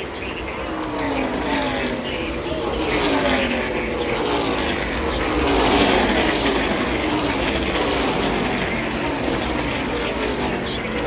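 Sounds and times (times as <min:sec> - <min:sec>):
race truck engines passing by: 0:00.0 - 0:11.0.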